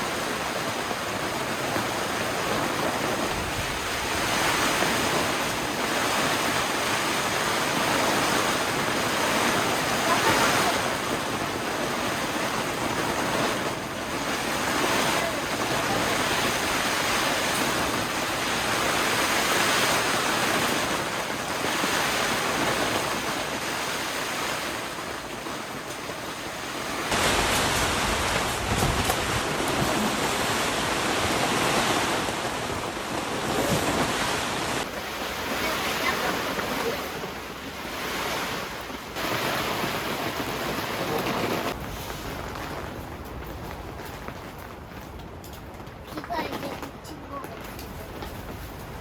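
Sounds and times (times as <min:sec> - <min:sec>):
gusting wind: 0:00.0 - 0:49.0
heavy rain pouring: 0:00.0 - 0:49.0
wind buffeting microphone: 0:00.0 - 0:49.0.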